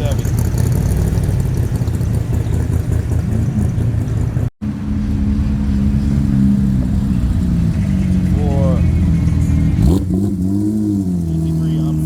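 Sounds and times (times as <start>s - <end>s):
cars rolling slowly past: 0.0s - 12.0s.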